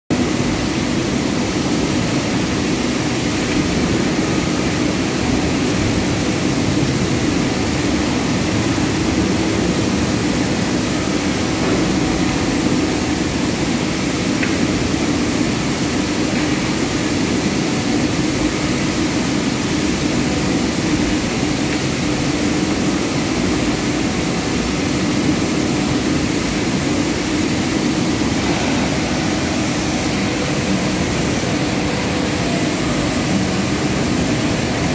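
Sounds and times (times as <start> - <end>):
industrial machinery din: 0.1 - 34.9.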